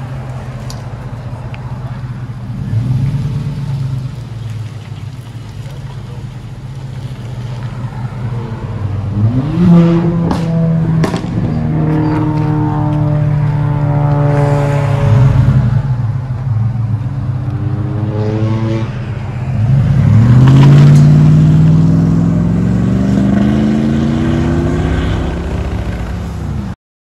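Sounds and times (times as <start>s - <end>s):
truck engine accelerating: 0.0s - 26.8s.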